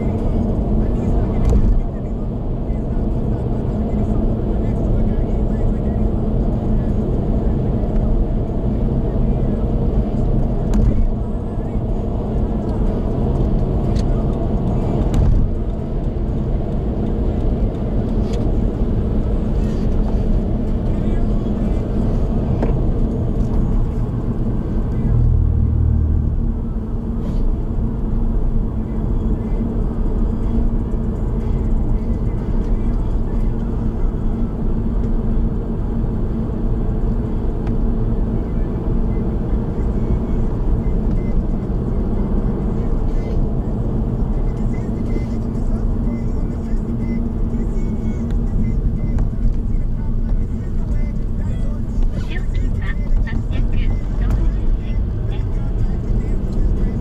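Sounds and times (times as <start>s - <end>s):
car road and engine noise: 0.0s - 57.0s
constant low hum: 0.0s - 57.0s.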